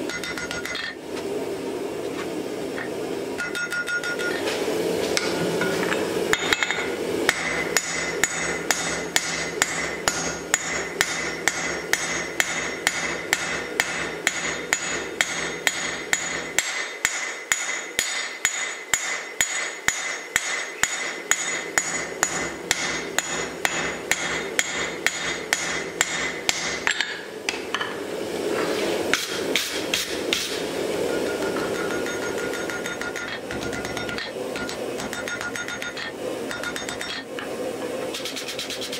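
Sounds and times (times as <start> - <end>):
hammer striking iron on anvil: 0.0 - 1.0, 3.4 - 4.4, 5.2 - 28.0, 29.1 - 37.5.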